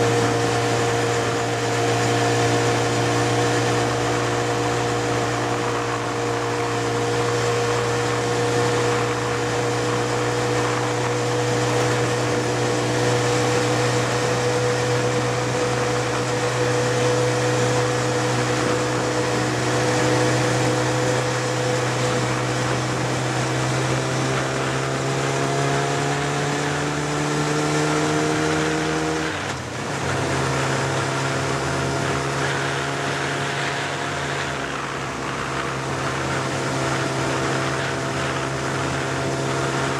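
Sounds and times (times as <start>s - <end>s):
vehicle engine accelerating: 0.0s - 39.9s
wind and road noise: 0.0s - 39.9s.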